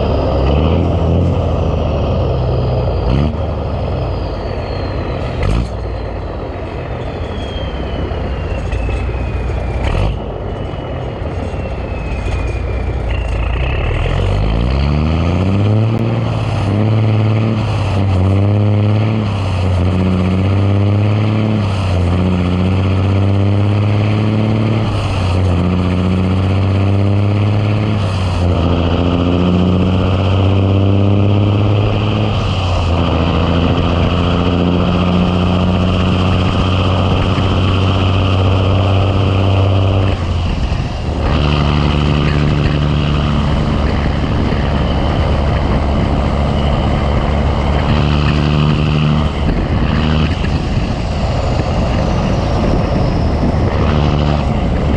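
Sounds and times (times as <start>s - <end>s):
diesel truck engine accelerating: 0.0s - 54.9s.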